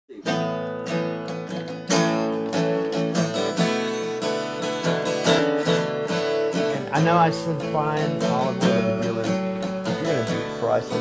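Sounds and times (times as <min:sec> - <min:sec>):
acoustic guitar strumming chords: 0:00.1 - 0:11.0.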